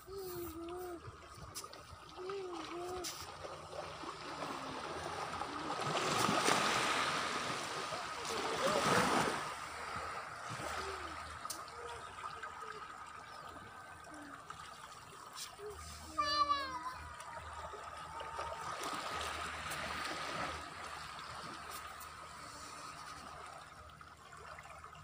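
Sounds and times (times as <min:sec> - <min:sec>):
waves washing onto beach: 0:00.0 - 0:13.1, 0:14.9 - 0:23.7.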